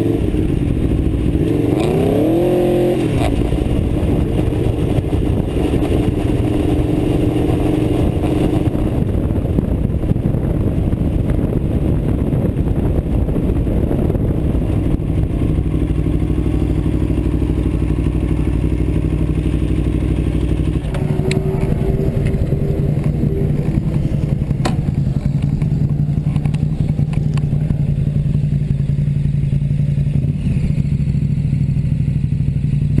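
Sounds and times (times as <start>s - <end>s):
motorcycle engine at low revs: 0.0s - 33.0s.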